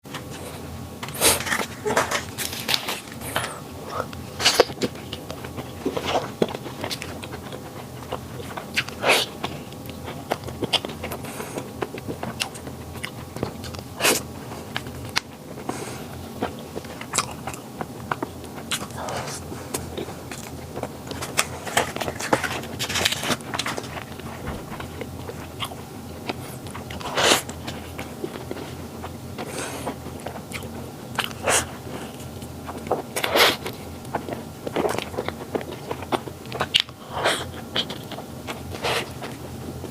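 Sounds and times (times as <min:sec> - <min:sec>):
person chewing flaky pastry: 0:00.1 - 0:39.9.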